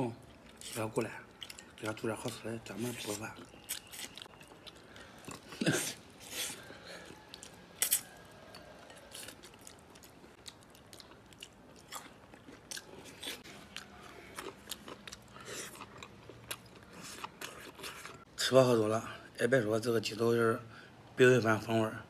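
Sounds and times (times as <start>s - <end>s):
chewing and sucking: 0.3s - 18.2s.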